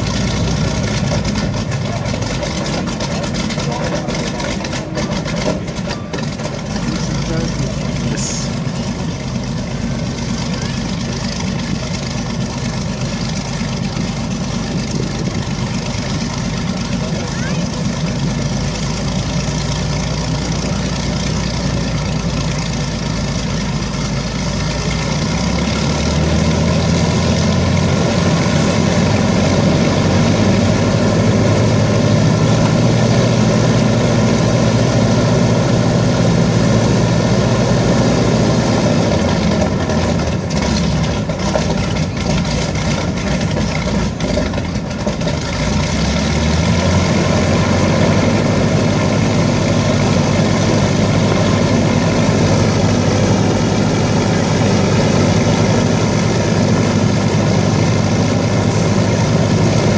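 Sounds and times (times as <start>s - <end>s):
aircraft piston engines running: 0.0s - 59.9s.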